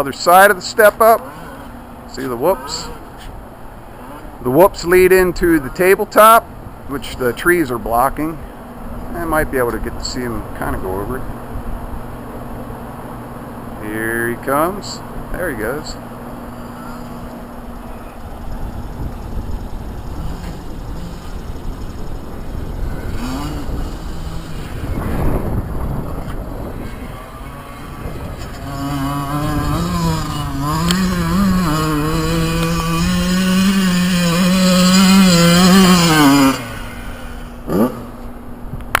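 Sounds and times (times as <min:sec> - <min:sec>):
motocross bike engines revving: 0:00.0 - 0:11.3, 0:13.6 - 0:38.7.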